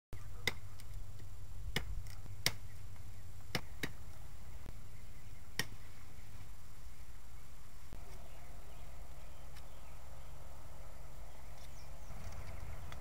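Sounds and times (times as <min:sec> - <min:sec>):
steady low rumble: 0:00.7 - 0:13.0.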